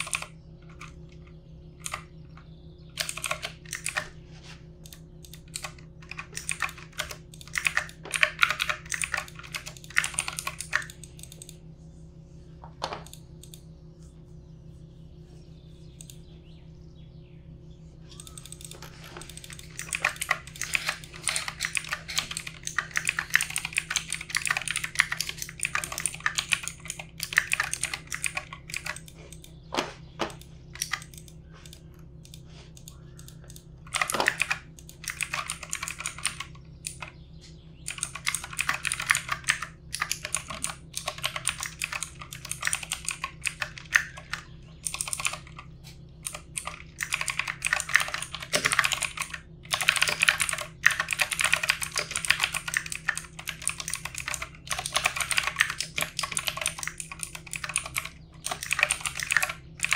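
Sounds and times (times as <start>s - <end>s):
typing on computer keyboard: 0.0s - 1.0s, 2.9s - 4.2s, 4.8s - 11.6s, 18.2s - 29.5s, 30.3s - 37.2s, 37.9s - 59.9s
faint steady hum: 0.0s - 59.9s.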